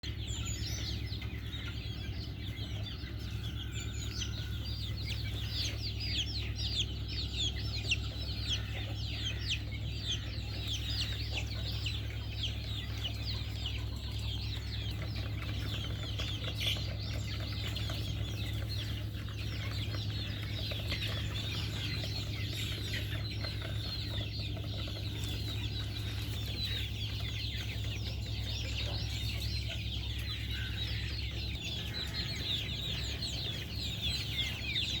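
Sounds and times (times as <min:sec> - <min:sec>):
chickens calling: 0:00.0 - 0:35.0
steady low hum: 0:00.0 - 0:35.0.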